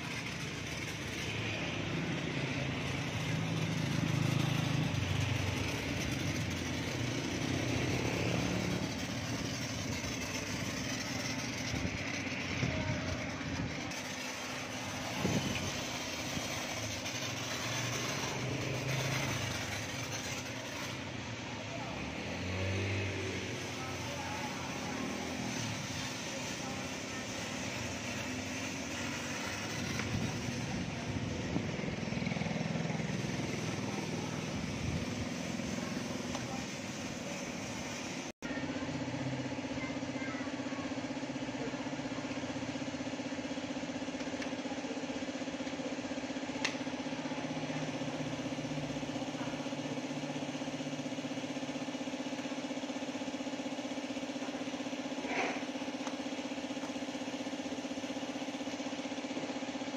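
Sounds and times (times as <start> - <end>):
motor humming: 0.0 - 59.9.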